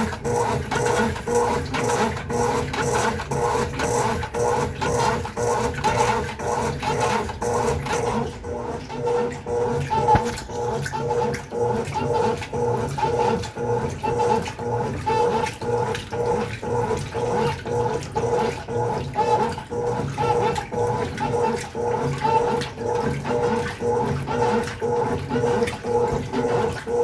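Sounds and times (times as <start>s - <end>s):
washing machine motor humming: 0.0s - 27.0s
water sloshing: 0.0s - 27.0s.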